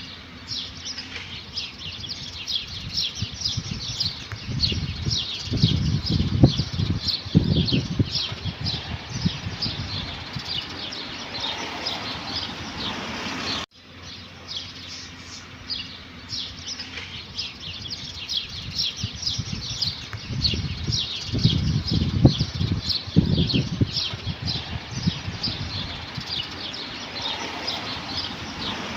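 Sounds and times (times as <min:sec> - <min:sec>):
low rumbling: 0:00.0 - 0:28.9
small birds chirping: 0:00.0 - 0:28.9.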